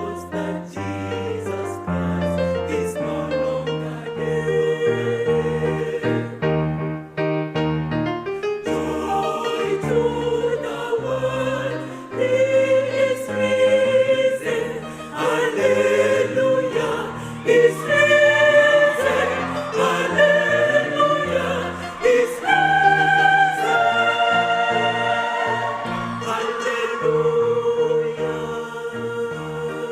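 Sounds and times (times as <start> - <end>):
choir singing in parts: 0.0 - 6.8, 8.5 - 29.9.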